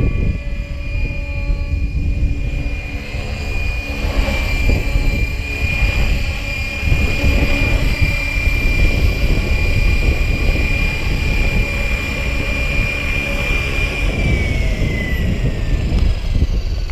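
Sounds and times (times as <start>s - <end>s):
rc helicopter rotor whine: 0.0s - 16.9s
wind buffeting microphone: 0.0s - 16.9s.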